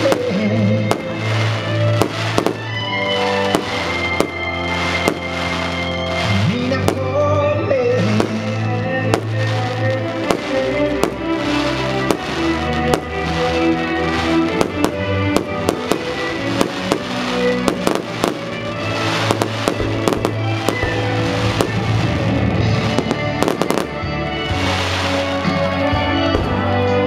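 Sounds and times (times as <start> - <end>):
fireworks bangs and crackles: 0.0 - 27.0
music playing: 0.0 - 27.0.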